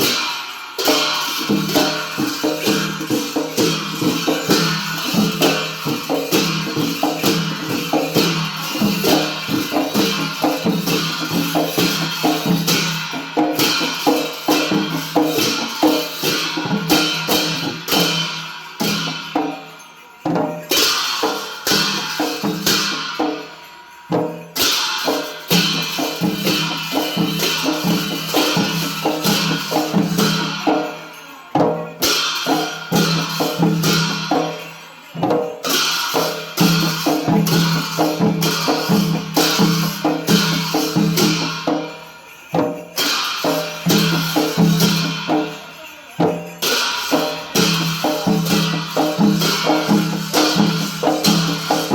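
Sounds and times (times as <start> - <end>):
clashing cymbals: 0.0 - 51.9
drums: 0.0 - 51.9.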